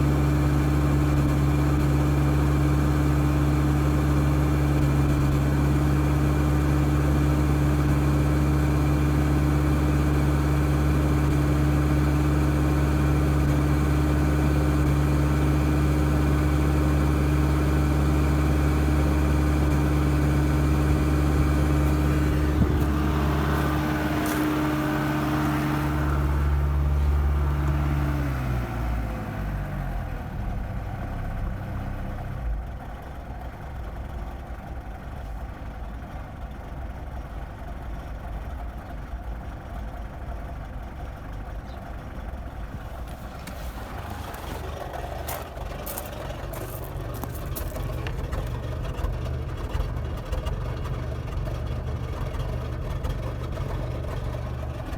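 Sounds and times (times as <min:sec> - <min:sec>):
diesel engine idling roughly: 0:00.0 - 0:54.9.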